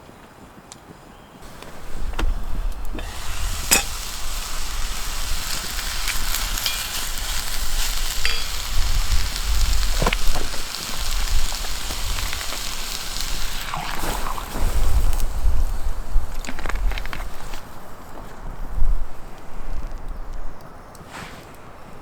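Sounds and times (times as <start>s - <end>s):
steady hiss: 1.4s - 19.9s
wind buffeting microphone: 1.4s - 20.8s.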